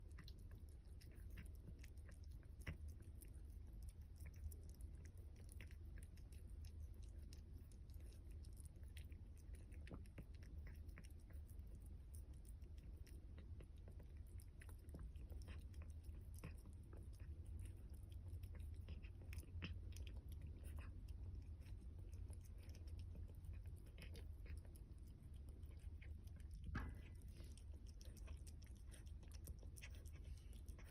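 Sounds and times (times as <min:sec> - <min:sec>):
cats chewing food: 0:00.0 - 0:30.9
low steady hum: 0:00.0 - 0:30.9.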